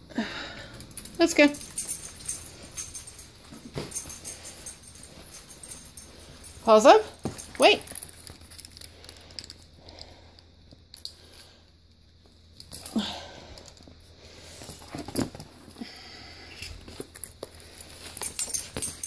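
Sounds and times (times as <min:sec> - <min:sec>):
rustling and chain collar clinks: 0:00.6 - 0:09.8, 0:12.4 - 0:19.0.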